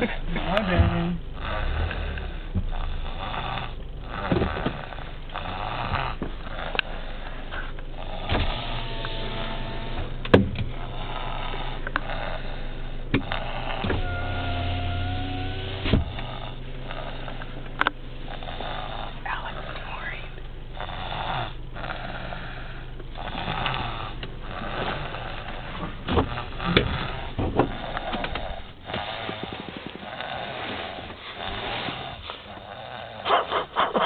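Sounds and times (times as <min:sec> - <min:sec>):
car road hum: 0:00.0 - 0:34.0
child snoring: 0:00.0 - 0:34.0.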